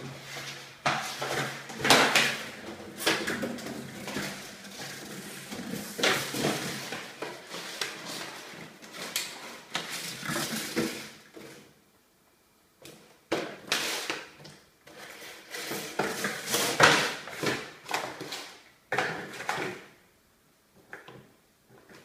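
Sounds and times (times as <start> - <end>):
plastic bottle clattering on tiles: 0.4 - 11.7, 13.3 - 20.0.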